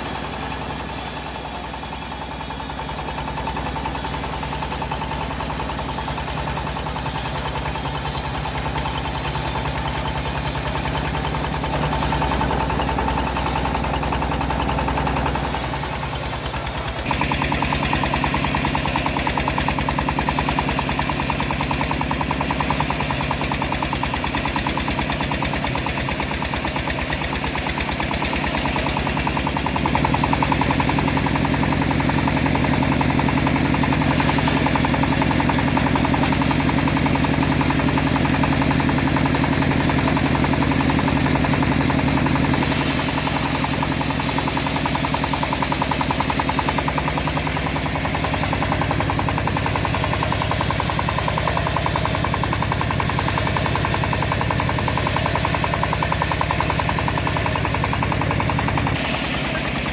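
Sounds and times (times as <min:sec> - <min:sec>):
engine chugging: 0:00.0 - 0:59.9.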